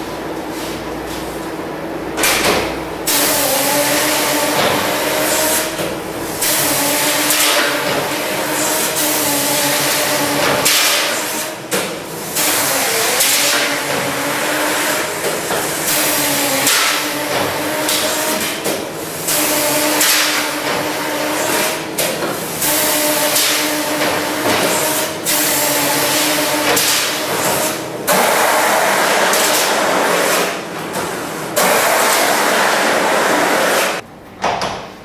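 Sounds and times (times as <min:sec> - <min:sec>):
cleaning machine hissing: 0:03.1 - 0:34.0.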